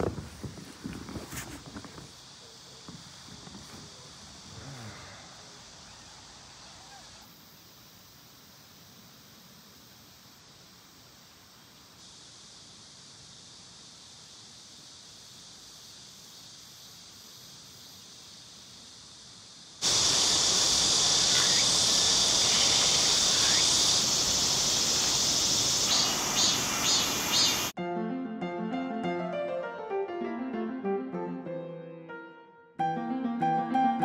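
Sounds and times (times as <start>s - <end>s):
insects droning: 0.0s - 27.8s
loud insect chorus: 0.0s - 27.8s.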